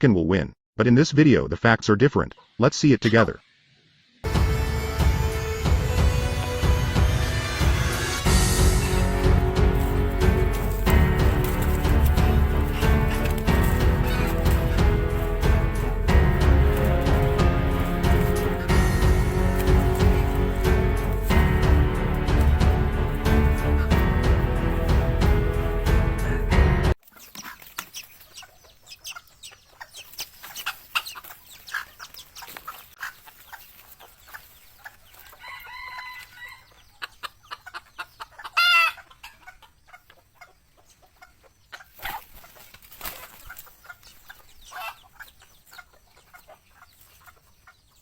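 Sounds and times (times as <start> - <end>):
chickens clucking and calling: 6.5 - 48.0.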